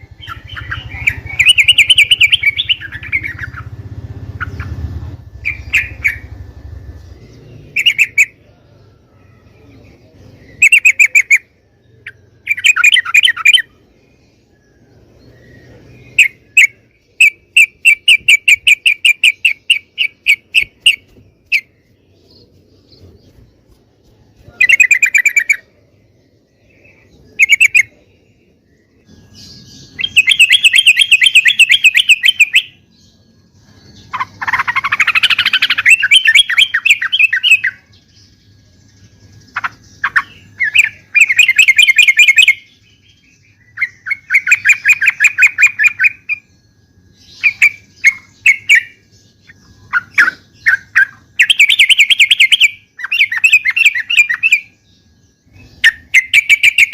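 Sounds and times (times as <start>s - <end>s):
bulbul singing: 0.0s - 56.9s.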